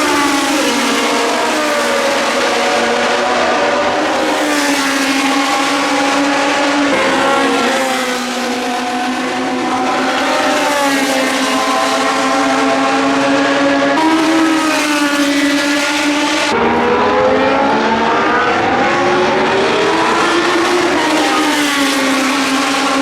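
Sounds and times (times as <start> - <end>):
racing cars passing: 0.0 - 23.0.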